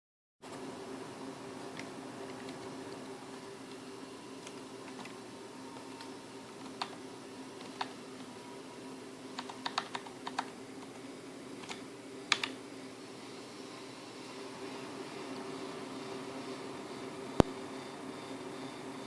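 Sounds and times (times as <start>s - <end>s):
computer fan humming: 0.4s - 19.0s.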